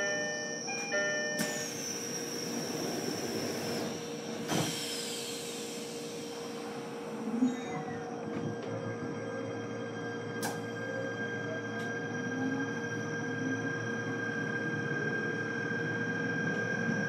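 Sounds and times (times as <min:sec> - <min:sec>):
train wheel and rail noise: 0:00.0 - 0:17.0.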